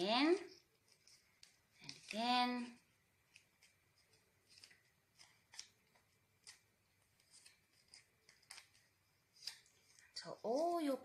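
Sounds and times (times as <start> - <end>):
faint paper crinkles and taps: 0.4 - 11.0.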